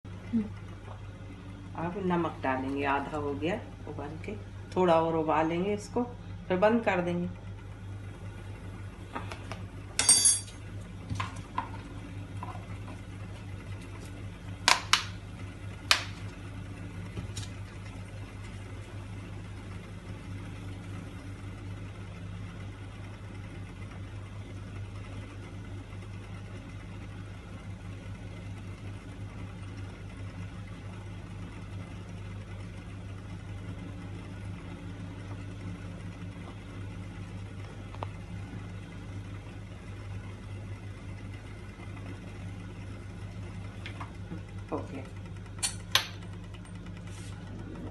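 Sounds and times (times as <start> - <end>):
pot simmering with low hum: 0.1 - 47.9.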